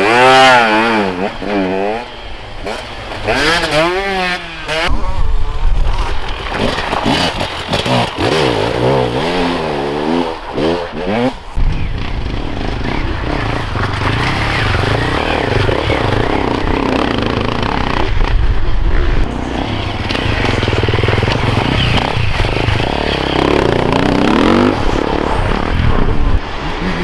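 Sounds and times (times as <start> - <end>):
motorcycle engines revving: 0.0 - 5.1, 6.5 - 27.0.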